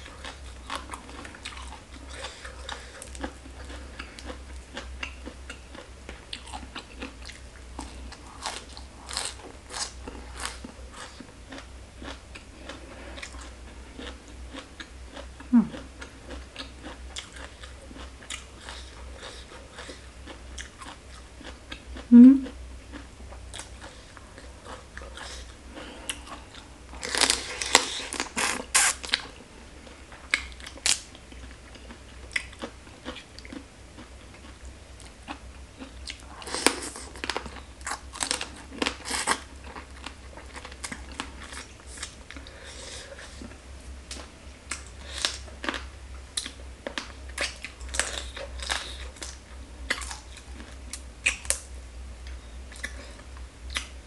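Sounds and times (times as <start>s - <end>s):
close chewing and crunching: 0.0s - 54.0s
faint low hum: 0.0s - 54.0s.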